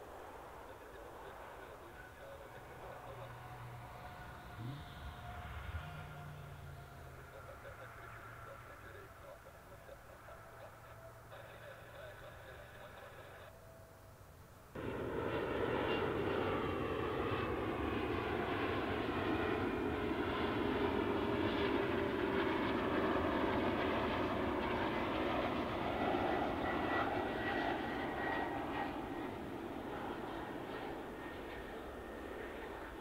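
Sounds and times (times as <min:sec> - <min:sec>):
faint high whine: 0:00.0 - 0:33.0
jet airliner flying overhead: 0:00.0 - 0:33.0.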